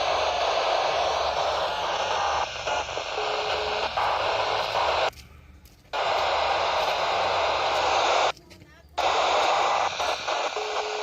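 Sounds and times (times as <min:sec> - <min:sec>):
radio static hiss: 0:00.0 - 0:05.1, 0:05.9 - 0:08.3, 0:09.0 - 0:11.0.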